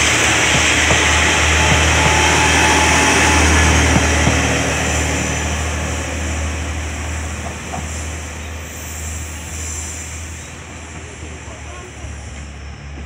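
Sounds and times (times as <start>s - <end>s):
diesel train engine drone: 0.0s - 13.0s.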